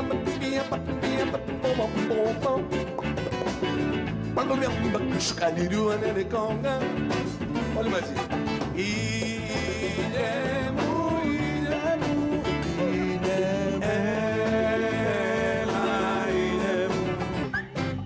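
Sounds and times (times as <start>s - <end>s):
man singing: 0.0s - 3.6s, 4.3s - 17.6s
acoustic guitar: 0.0s - 18.0s
drums: 0.0s - 18.0s
electric bass: 0.0s - 18.0s.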